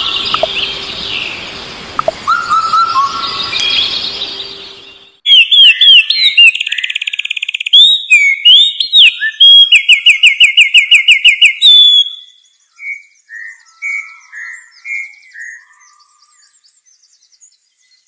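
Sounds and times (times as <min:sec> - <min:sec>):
songbird singing with trills: 0:00.0 - 0:18.0.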